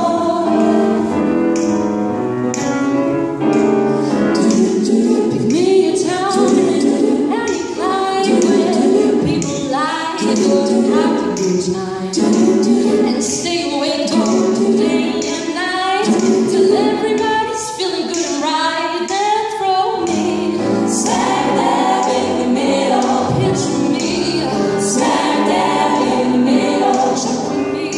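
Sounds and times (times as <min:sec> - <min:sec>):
women's vocal group singing harmony: 0:00.0 - 0:01.7, 0:03.9 - 0:27.9.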